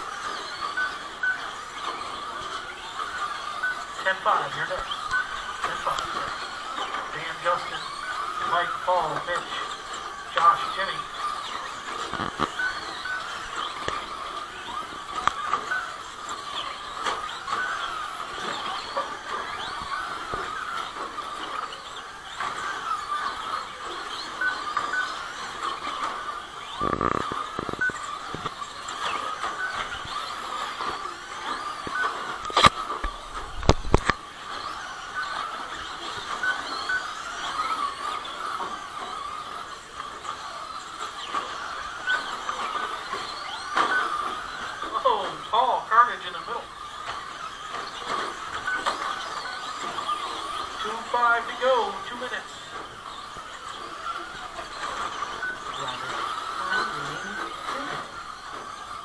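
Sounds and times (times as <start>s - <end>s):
rc truck motors whining: 0.0s - 59.0s.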